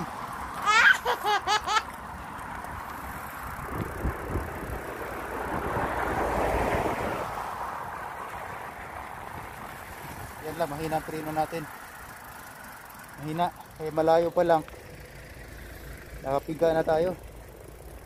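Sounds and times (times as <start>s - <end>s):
car passing: 0.0s - 18.0s
street noise: 0.0s - 18.0s.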